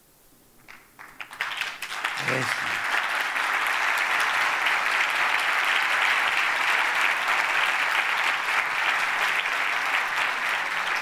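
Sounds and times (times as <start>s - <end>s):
audience applauding: 0.7s - 11.0s.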